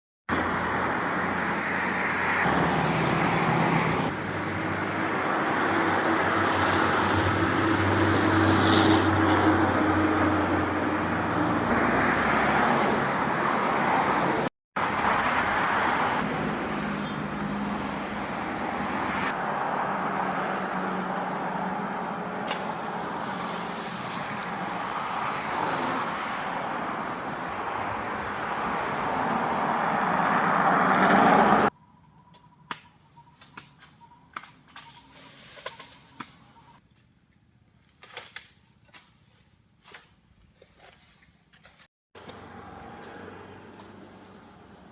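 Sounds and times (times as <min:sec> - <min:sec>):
road traffic noise: 0:00.3 - 0:44.9.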